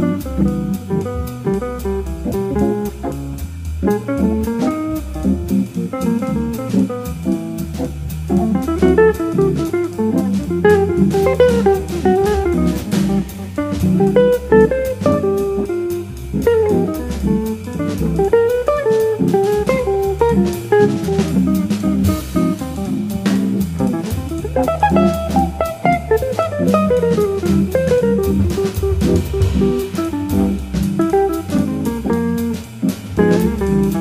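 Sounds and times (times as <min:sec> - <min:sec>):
jazz electric guitar solo: 0:00.0 - 0:34.0
organ bass line: 0:00.0 - 0:34.0
swinging drum kit: 0:00.0 - 0:34.0.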